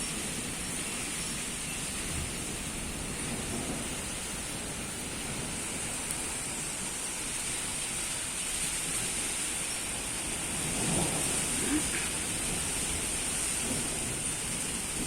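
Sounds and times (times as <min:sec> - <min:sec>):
rain hissing: 0:00.0 - 0:15.0
thunder rumbling: 0:00.0 - 0:15.0.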